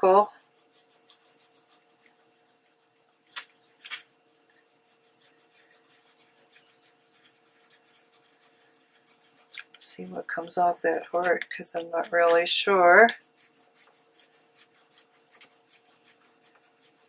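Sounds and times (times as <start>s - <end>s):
cloth rubbing on paper: 0.0s - 17.0s.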